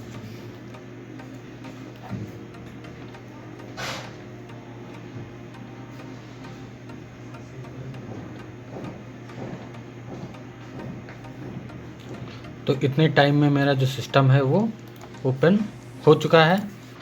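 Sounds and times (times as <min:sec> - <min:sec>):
computer hum: 0:00.0 - 0:17.0
hard disk ticking: 0:00.0 - 0:17.0.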